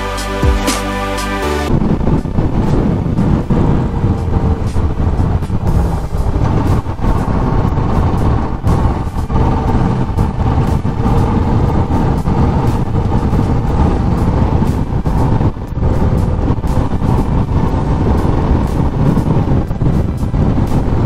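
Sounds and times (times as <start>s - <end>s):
motorcycle engine running: 1.7s - 21.0s
wind buffeting on microphone: 1.7s - 21.0s.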